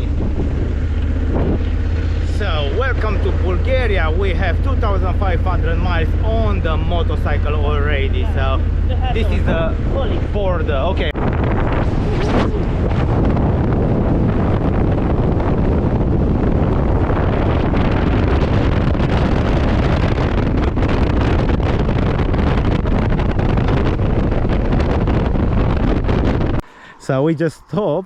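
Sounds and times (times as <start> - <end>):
motorcycle engine: 0.0 - 26.6
wind buffeting microphone: 0.0 - 26.9
road noise: 0.0 - 28.0.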